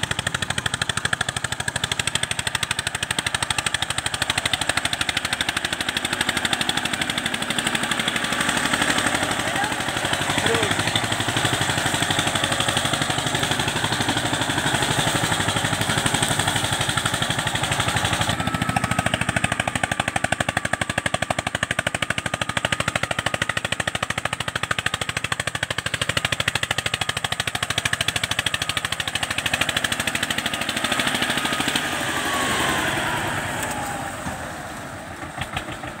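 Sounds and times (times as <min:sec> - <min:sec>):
tractor engines chugging: 0:00.0 - 0:36.0.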